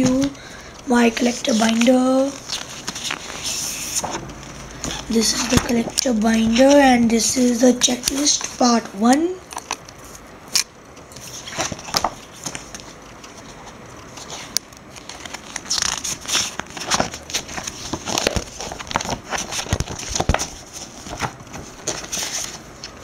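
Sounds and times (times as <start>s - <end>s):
plastic sleeves crinkling: 0.0s - 8.9s, 11.2s - 23.0s.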